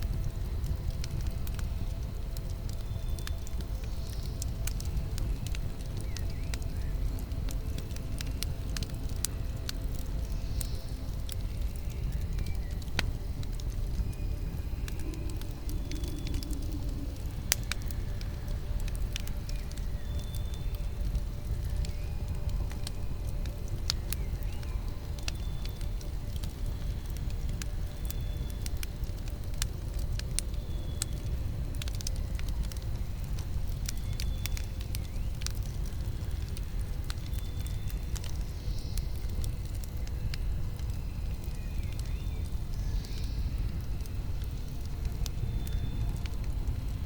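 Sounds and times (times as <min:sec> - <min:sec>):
burning wood crackling and popping: 0:00.0 - 0:47.0
campfire low rumble: 0:00.0 - 0:47.0.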